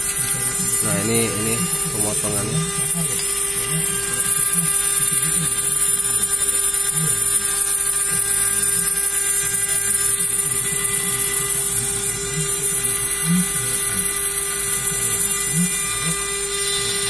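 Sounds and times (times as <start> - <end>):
router spindle whining: 0.0 - 17.0.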